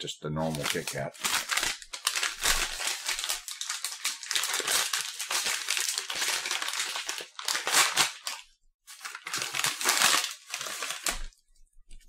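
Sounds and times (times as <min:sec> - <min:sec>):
plastic snack wrapper crinkling: 0:00.4 - 0:12.0.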